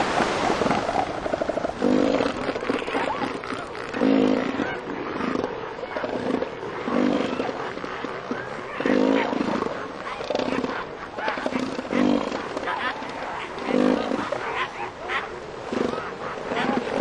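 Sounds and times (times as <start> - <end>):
elephant seals calling: 0.2 - 17.0.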